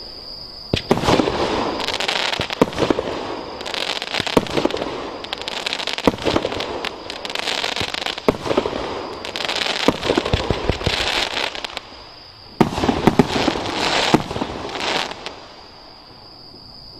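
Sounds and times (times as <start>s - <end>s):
fireworks firing and crackling: 0.7s - 15.8s.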